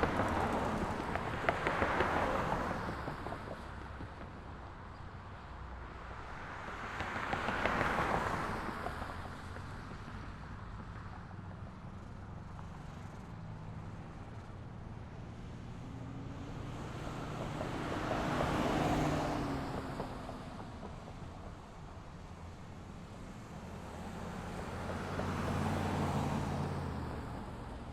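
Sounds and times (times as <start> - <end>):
low rumble of traffic: 0.0 - 27.9
vehicles passing close by: 0.0 - 27.9.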